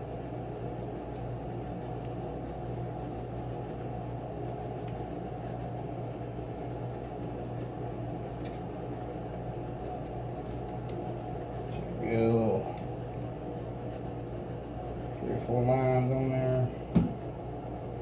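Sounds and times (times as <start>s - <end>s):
fan humming: 0.0s - 18.0s.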